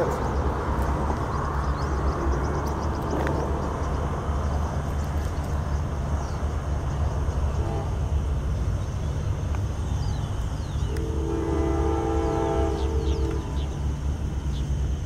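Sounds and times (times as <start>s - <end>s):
diesel locomotive idling: 0.0s - 15.0s.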